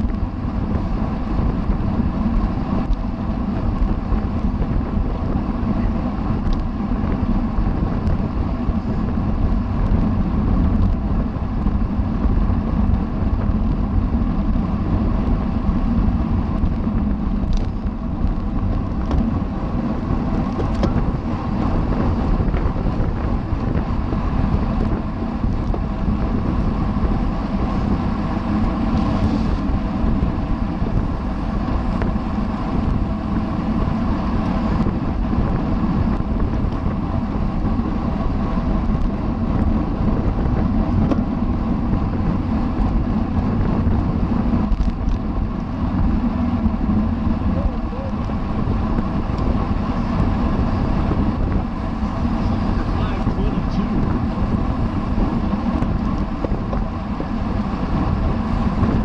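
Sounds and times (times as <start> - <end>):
road noise: 0.0 - 59.0
wind rush: 0.0 - 59.0.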